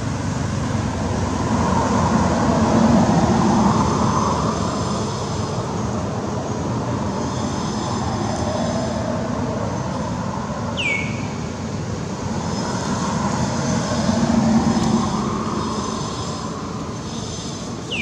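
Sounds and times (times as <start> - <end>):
rumbling outdoor background noise: 0.0 - 18.0.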